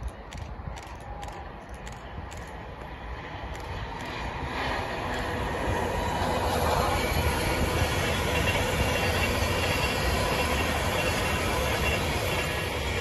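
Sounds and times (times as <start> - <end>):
train wheels rumbling on rail: 0.0 - 13.0
faint steady tones: 0.4 - 13.0.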